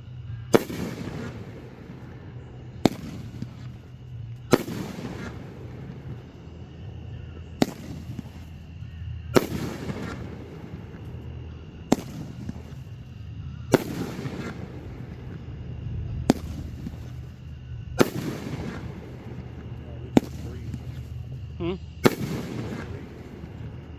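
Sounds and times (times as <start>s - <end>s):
low background rumble: 0.0s - 23.9s
fireworks shells bursting: 0.6s - 23.9s.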